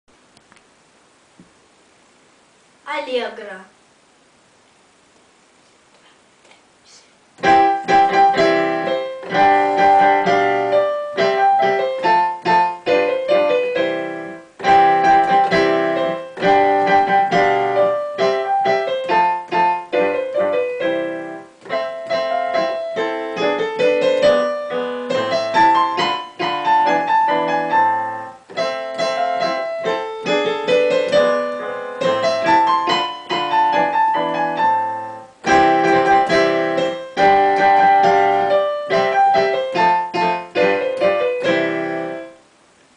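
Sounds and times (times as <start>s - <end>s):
piano duet: 7.4s - 42.6s.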